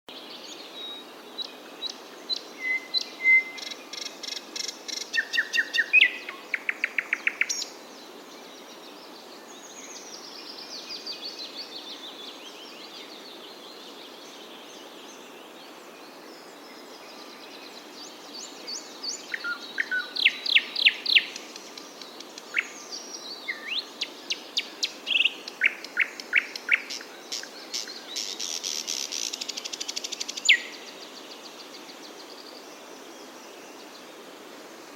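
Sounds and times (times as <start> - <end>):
steady background hiss: 0.1 - 34.9
songbirds chirping and singing: 0.4 - 34.1.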